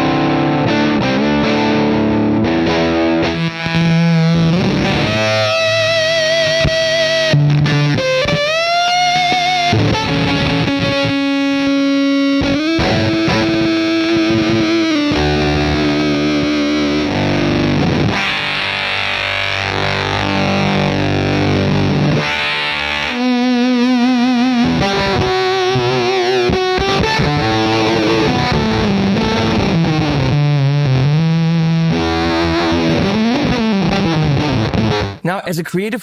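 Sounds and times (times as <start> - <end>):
distorted electric guitar: 0.0 - 35.2.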